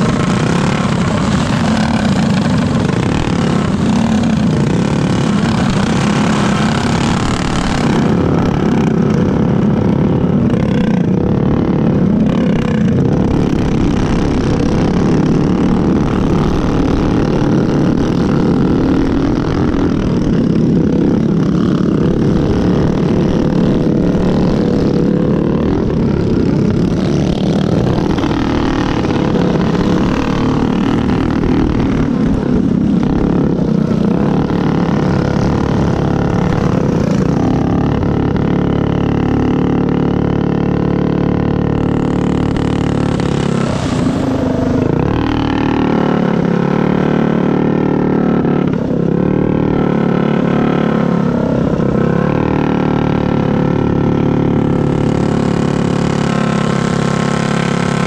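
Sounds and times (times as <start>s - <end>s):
go-kart engine running hard: 0.0s - 58.0s
other kart engines: 0.0s - 58.0s.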